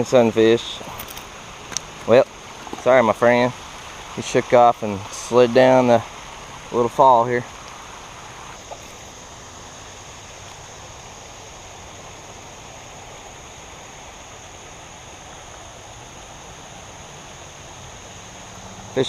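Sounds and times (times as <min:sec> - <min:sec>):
water rushing over a small fall: 0:00.0 - 0:19.0
high-pitched insect drone: 0:02.1 - 0:19.0.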